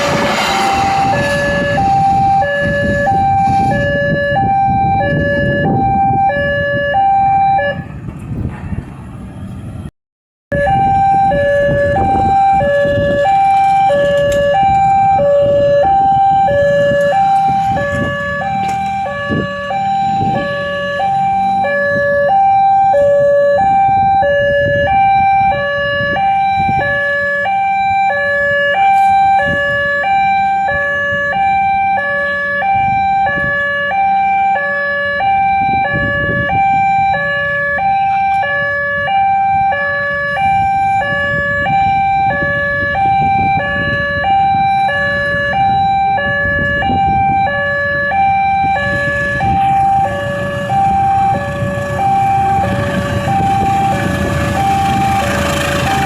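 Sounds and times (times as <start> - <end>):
traffic rumble: 0.0 - 9.9, 10.5 - 56.0
level crossing alarm two-tone: 0.9 - 7.8, 10.5 - 56.0.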